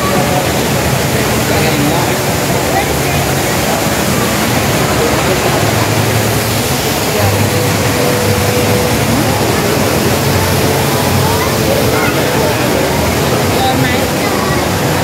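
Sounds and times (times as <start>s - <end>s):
faint voices: 0.0s - 15.0s
indoor waterfall roaring: 0.0s - 15.0s.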